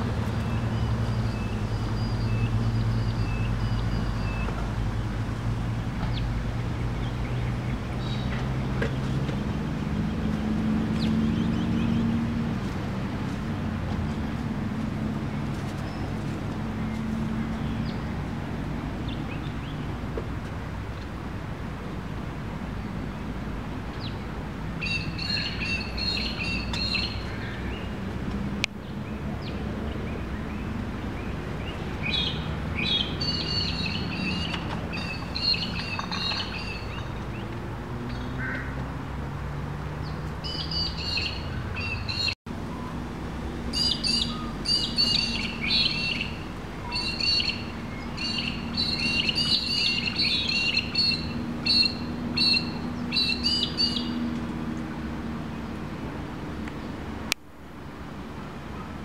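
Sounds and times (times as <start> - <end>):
birds chirping: 0.0 - 20.2, 22.8 - 38.8, 40.0 - 55.8.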